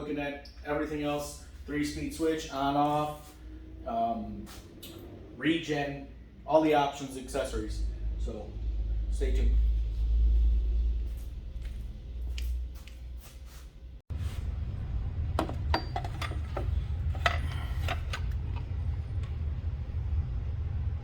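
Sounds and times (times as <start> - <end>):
steady low rumble: 0.1 - 21.0.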